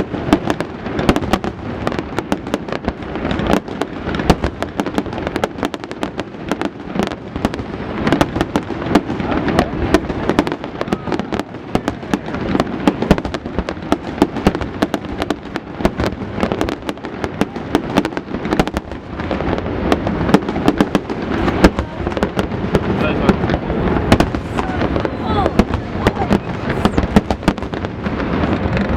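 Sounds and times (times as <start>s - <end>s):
fireworks cracking and banging: 0.0s - 28.9s.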